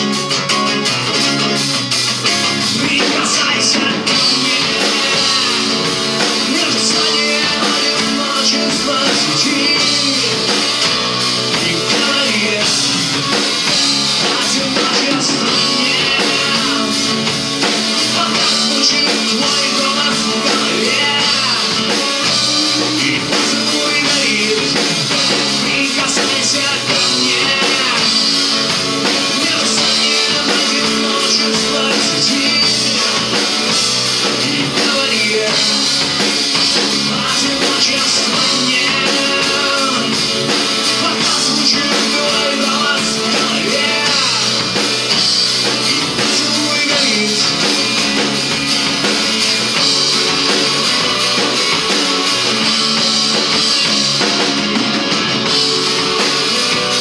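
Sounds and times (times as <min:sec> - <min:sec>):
live rock band playing: 0:00.0 - 0:57.0
person singing: 0:02.3 - 0:57.0.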